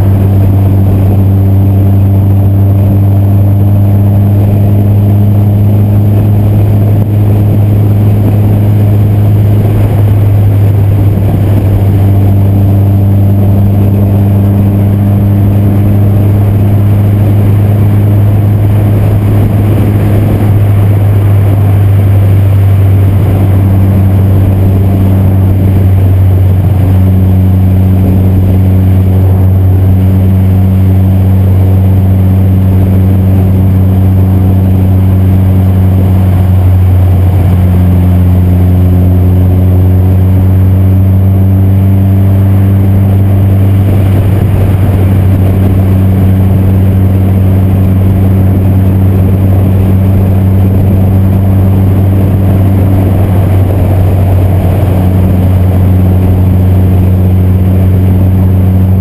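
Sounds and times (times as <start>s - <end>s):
car engine and exhaust drone: 0.0s - 59.0s
road noise: 0.0s - 59.0s.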